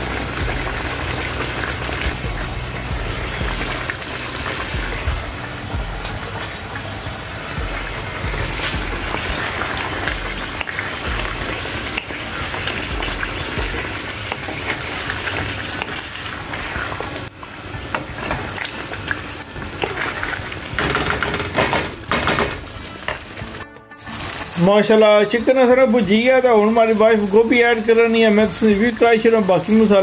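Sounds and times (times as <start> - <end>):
chicken sizzling in a pan: 0.0 - 20.9, 22.6 - 30.0.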